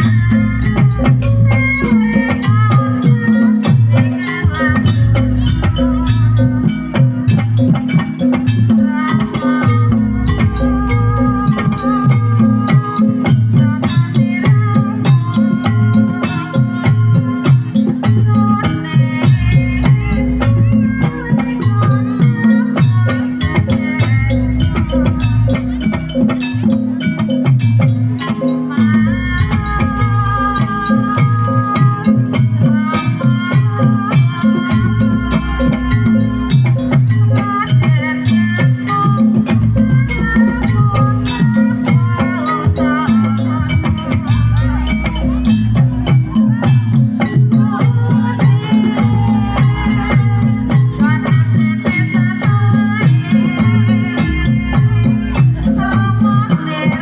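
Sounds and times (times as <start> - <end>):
ringing bronze metallophones and gongs: 0.0 - 57.0.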